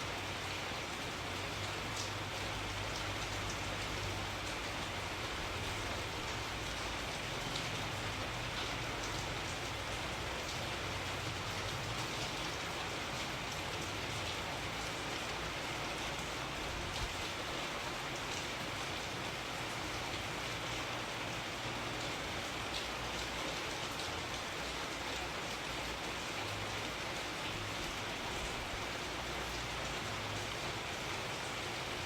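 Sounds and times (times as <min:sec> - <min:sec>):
raindrops ticking on a surface: 0:00.1 - 0:32.0.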